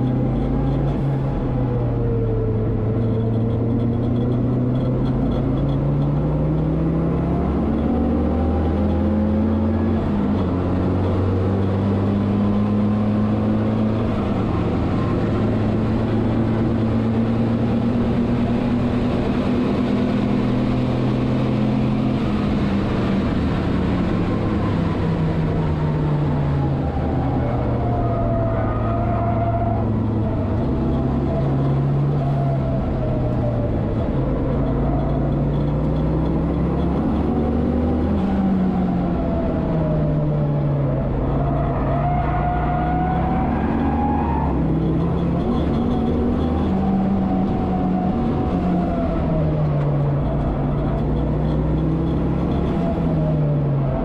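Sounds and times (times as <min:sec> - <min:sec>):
race car engine accelerating: 0:00.0 - 0:54.0
wind and road noise: 0:00.0 - 0:54.0.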